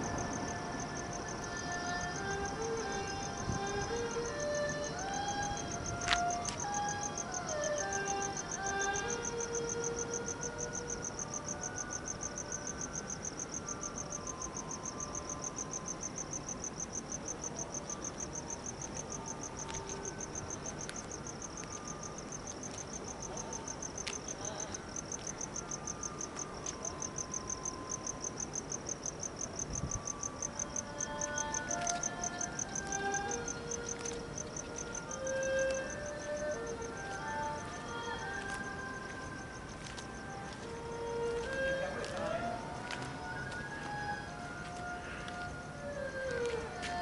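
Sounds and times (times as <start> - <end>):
insect chirping: 0.0 - 47.0.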